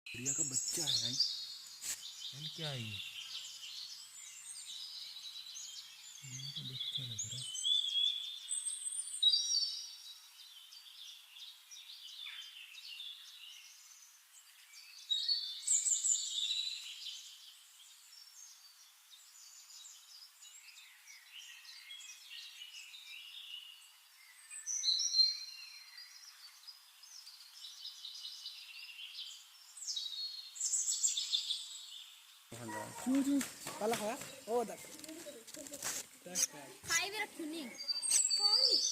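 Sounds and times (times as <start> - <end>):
faint high hiss: 0.1 - 38.9
small birds chirping: 0.1 - 38.9.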